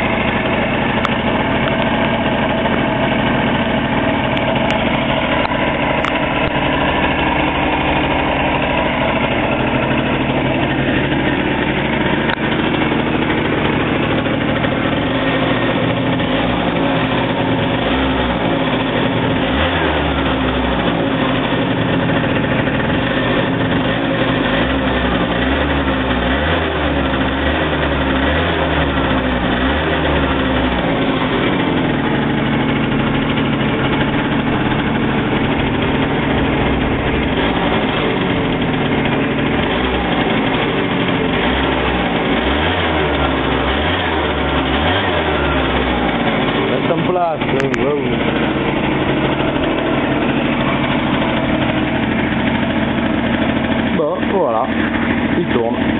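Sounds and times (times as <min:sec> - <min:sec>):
scooter engine idling: 0:00.0 - 0:55.9.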